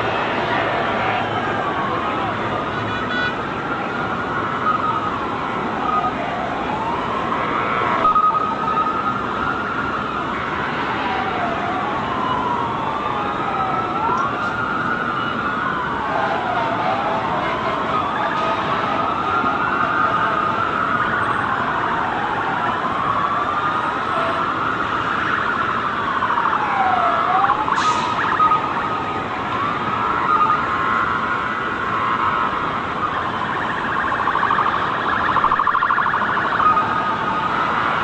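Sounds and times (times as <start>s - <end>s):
city noise: 0.0s - 38.0s
sirens wailing: 0.0s - 38.0s.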